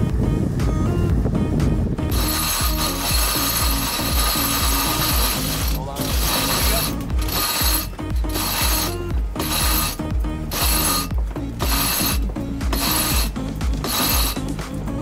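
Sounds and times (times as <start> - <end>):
winch ratcheting: 2.1 - 14.8.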